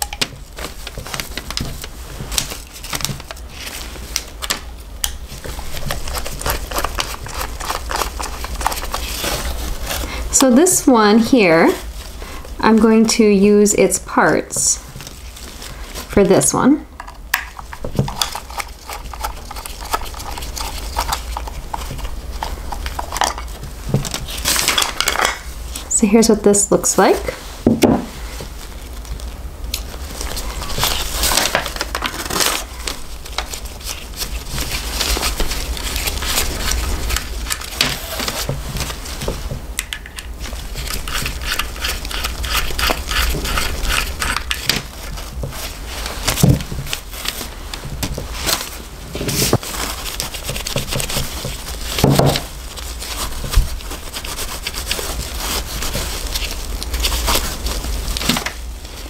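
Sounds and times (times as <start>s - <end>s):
paper crinkling: 0.0s - 10.3s, 14.8s - 16.4s, 17.5s - 25.8s, 27.3s - 59.0s.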